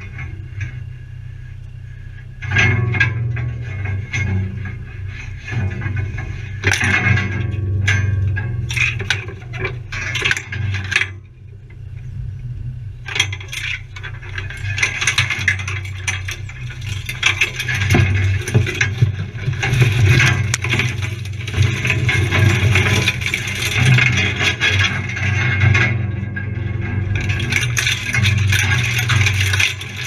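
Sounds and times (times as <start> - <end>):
vehicle rattles and knocks: 0.0 - 1.0, 2.3 - 30.0
engine drone: 0.0 - 30.0.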